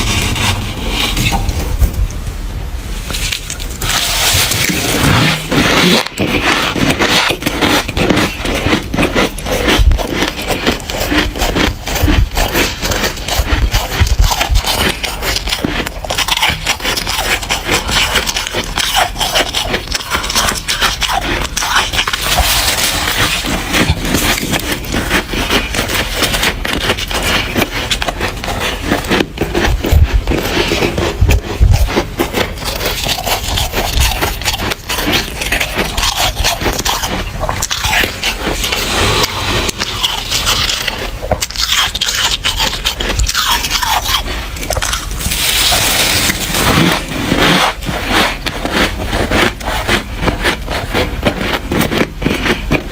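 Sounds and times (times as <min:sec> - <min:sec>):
frost being chewed: 0:03.1 - 0:52.9.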